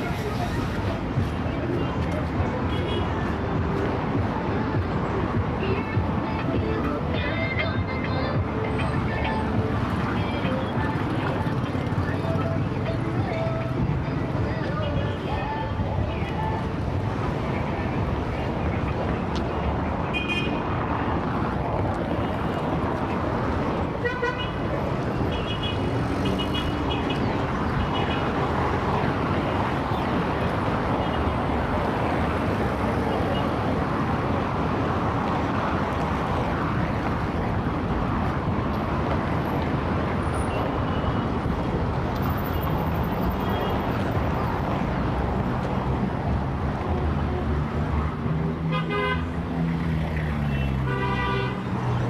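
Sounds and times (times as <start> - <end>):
dense traffic engines and tyres: 0.0 - 52.0.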